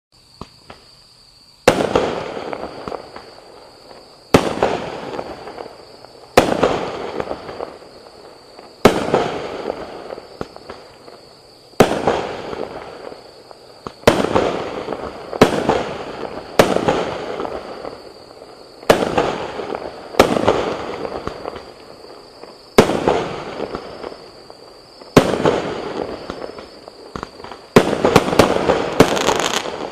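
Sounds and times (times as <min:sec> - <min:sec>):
firework bangs with crackle: 0:01.6 - 0:29.9.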